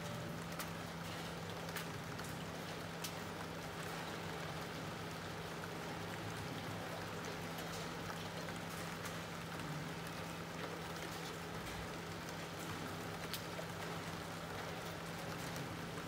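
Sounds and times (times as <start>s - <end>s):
raindrops ticking on a surface: 0.0s - 16.0s
steady rain falling: 0.0s - 16.0s.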